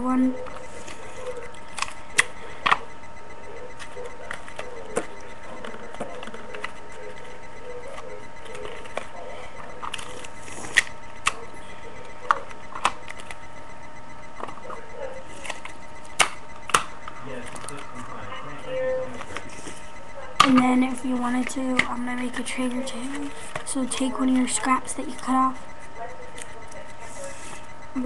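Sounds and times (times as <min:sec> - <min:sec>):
webcam hiss: 0:00.0 - 0:28.0.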